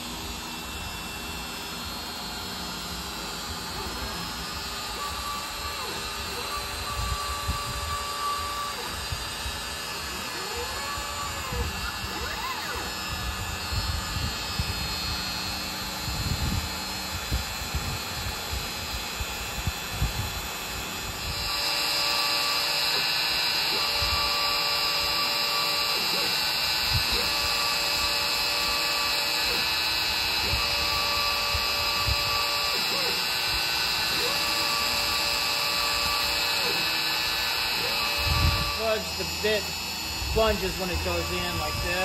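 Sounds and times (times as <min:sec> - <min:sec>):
router spindle whine: 0:00.0 - 0:42.0
stepper motors gliding in pitch: 0:00.0 - 0:42.0.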